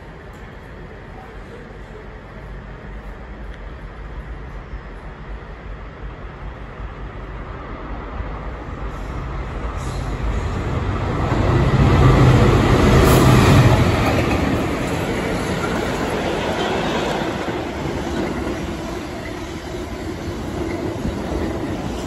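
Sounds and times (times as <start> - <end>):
low locomotive engine drone: 0.0 - 22.0.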